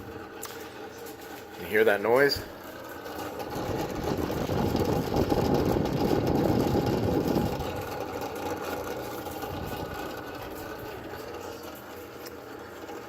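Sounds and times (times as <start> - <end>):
oven fan grinding: 0.0 - 13.0.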